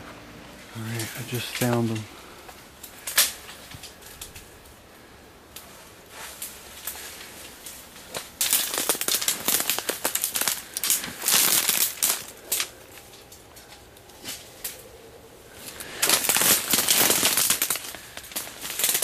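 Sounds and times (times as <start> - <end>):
dry brush crackling and snapping: 0.6 - 19.0.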